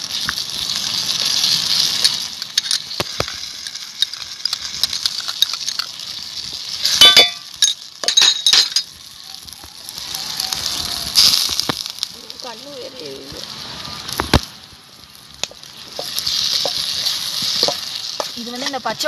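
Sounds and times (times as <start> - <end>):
onion and tomato sizzling: 0.0 - 19.0.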